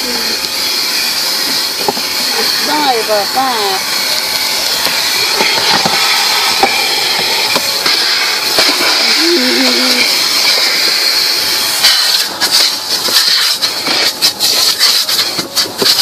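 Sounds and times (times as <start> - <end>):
car wash rushing hiss: 0.0 - 16.0.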